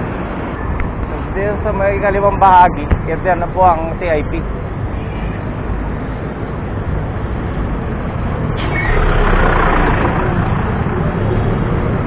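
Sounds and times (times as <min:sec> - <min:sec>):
city road traffic: 0:00.0 - 0:12.0
steady low rumble: 0:00.0 - 0:12.0.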